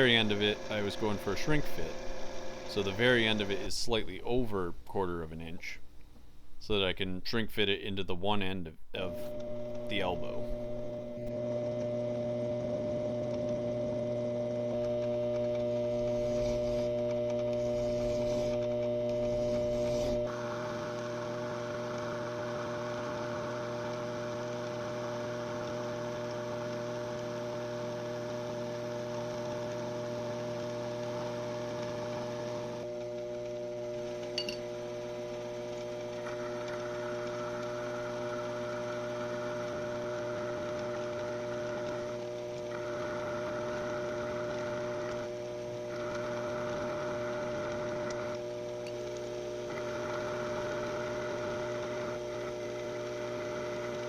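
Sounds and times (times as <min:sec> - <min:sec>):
machine tool motor humming: 0:00.0 - 0:04.4, 0:08.9 - 0:54.0.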